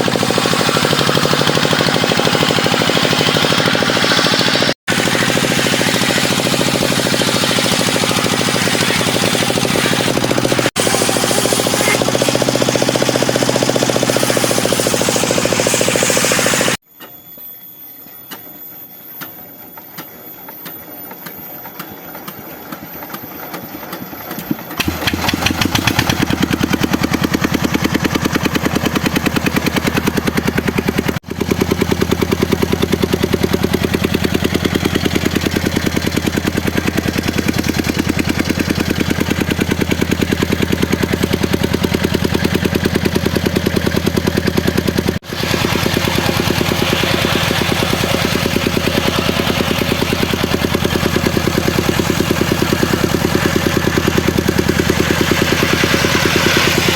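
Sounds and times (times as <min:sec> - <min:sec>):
loud noisy sound: 0:00.0 - 0:16.8, 0:24.8 - 0:56.9
saw engine pulsing: 0:00.0 - 0:16.8, 0:20.7 - 0:56.9.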